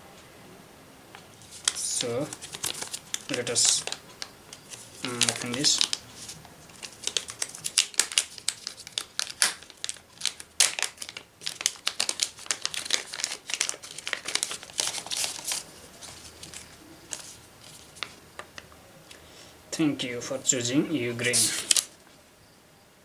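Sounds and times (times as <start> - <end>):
packaging crinkling: 1.1 - 18.8, 21.1 - 22.2.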